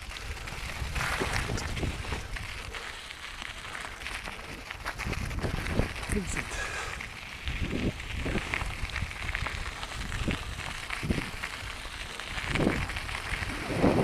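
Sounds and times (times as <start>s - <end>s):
bike tyres rolling over gravel: 0.0s - 14.0s
wind rumble on microphone: 0.0s - 14.0s.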